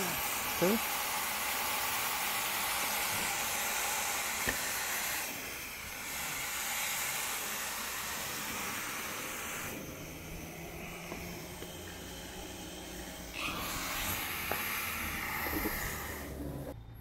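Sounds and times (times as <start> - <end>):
water spraying from garden hose: 0.0 - 16.7.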